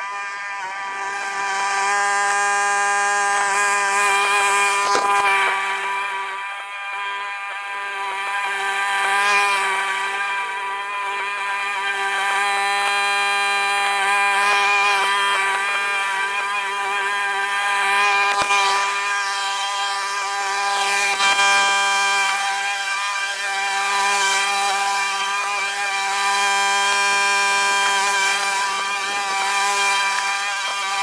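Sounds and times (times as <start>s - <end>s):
small petrol engine buzzing: 0.0s - 31.0s.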